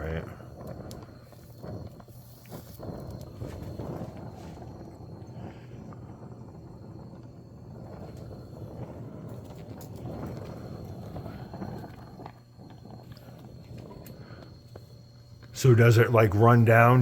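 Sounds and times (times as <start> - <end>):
torch flame rushing: 0.0 - 17.0.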